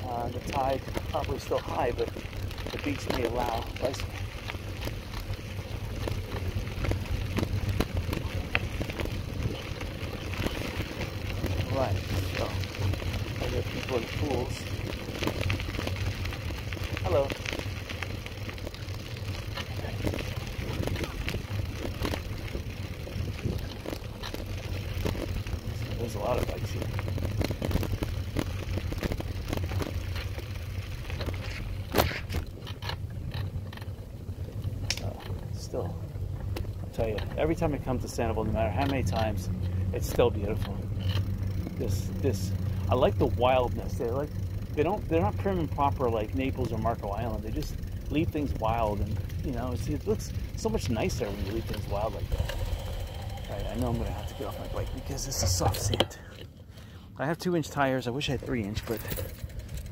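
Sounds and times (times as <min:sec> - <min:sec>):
bicycle clicks and rattles: 0:00.0 - 0:59.9
wind and tyre rumble: 0:00.0 - 0:59.9.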